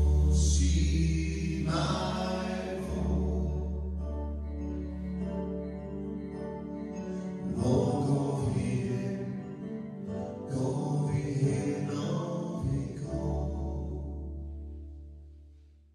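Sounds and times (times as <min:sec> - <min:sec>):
person singing: 0:00.0 - 0:05.2, 0:07.0 - 0:14.5
keyboard trio playing: 0:00.0 - 0:15.6
low keyboard chord: 0:00.0 - 0:15.6.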